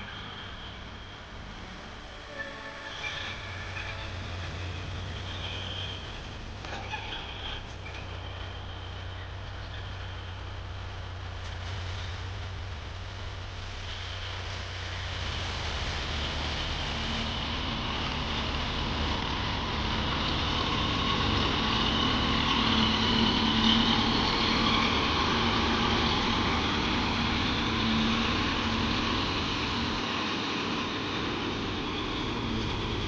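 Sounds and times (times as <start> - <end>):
tractor engine running: 3.7 - 33.0.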